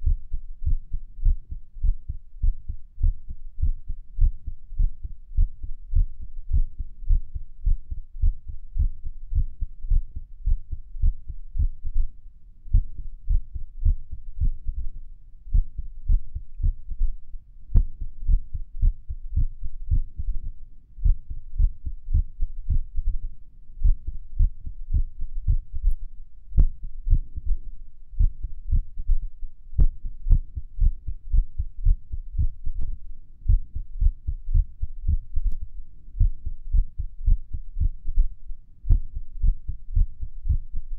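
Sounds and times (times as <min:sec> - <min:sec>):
heartbeat: 0:00.0 - 0:40.9.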